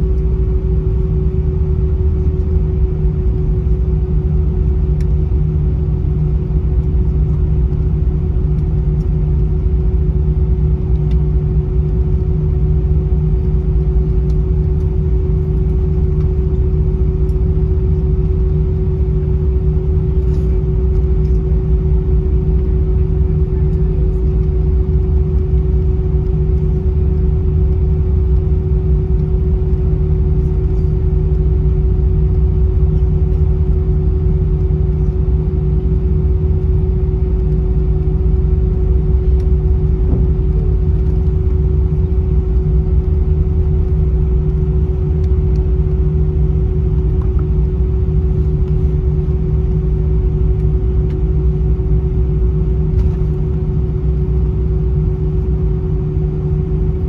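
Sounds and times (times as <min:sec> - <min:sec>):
aircraft cabin rumble: 0:00.0 - 0:57.0
engines and air system hum: 0:00.0 - 0:57.0.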